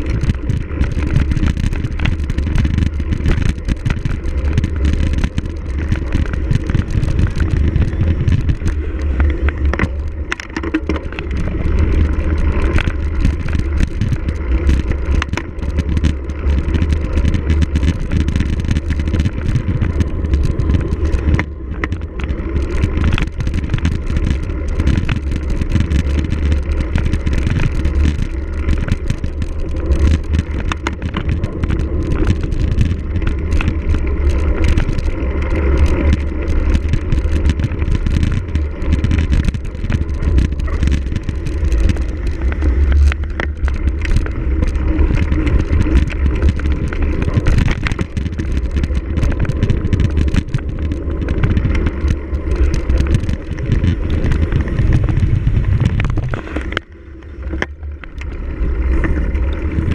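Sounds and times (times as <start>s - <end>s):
bike rattling and clicking: 0.0s - 59.9s
wind rumble on microphone: 0.0s - 59.9s.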